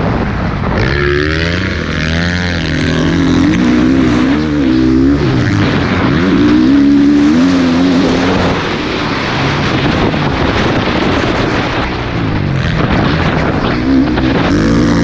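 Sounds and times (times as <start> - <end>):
motocross bike engine accelerating: 0.0 - 15.0
wind rush: 0.0 - 15.0.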